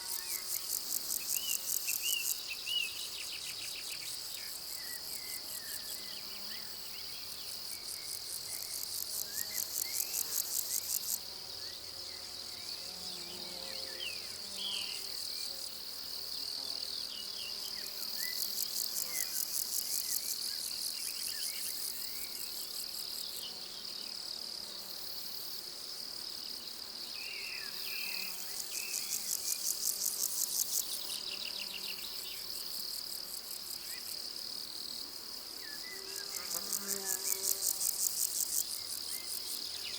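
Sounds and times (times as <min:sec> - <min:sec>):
crickets trilling and chirring: 0:00.0 - 0:39.9.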